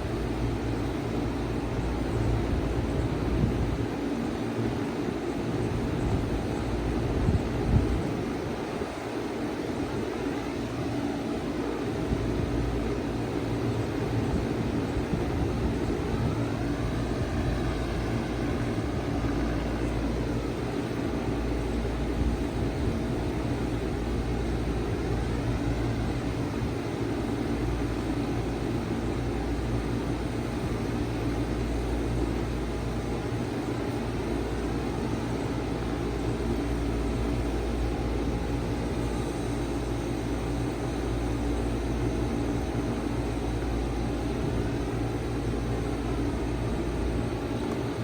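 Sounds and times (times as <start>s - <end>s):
compressor low hum: 0.0s - 48.0s
condenser fan rushing: 0.0s - 48.0s.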